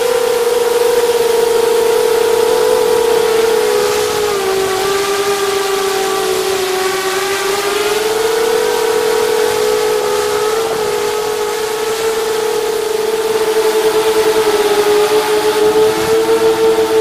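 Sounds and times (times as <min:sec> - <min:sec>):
drone motors whining: 0:00.0 - 0:17.0
rushing air: 0:00.0 - 0:17.0.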